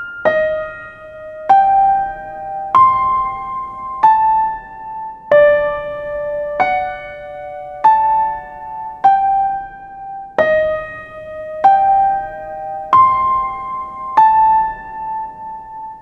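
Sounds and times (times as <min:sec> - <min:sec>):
gentle electric piano lullaby: 0:00.0 - 0:16.0.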